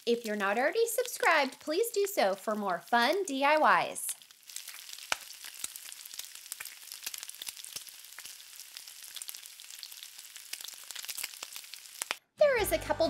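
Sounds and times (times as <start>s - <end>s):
frying sizzle with crackling pops: 0.0s - 12.2s.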